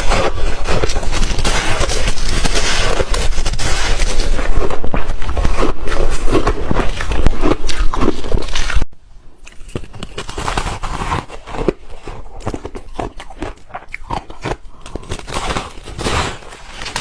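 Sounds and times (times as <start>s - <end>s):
ice being chewed: 0.0s - 17.0s.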